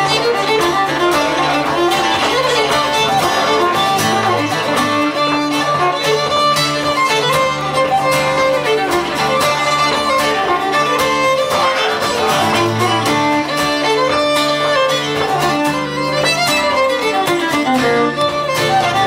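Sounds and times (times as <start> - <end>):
fiddle playing folk tune: 0.0 - 19.0
rhythmic accompaniment: 0.0 - 19.0.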